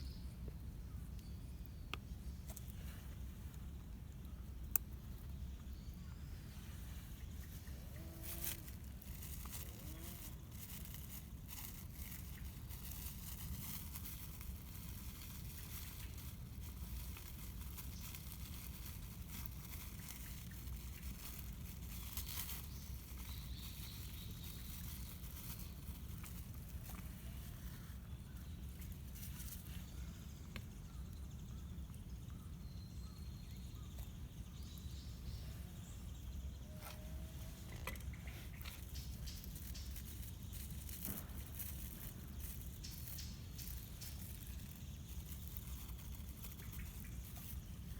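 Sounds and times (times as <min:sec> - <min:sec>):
small crackles and rustles: 0:00.4 - 0:47.9.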